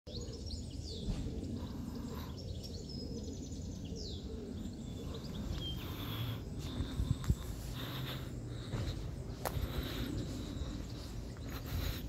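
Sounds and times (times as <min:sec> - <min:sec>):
birds chirping and whistling: 0:00.1 - 0:12.0
low outdoor rumble: 0:00.1 - 0:12.0.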